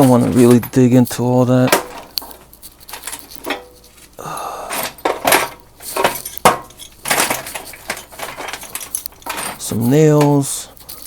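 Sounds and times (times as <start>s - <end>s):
nails clattering in a toolbox: 0.0s - 4.0s, 4.7s - 11.0s.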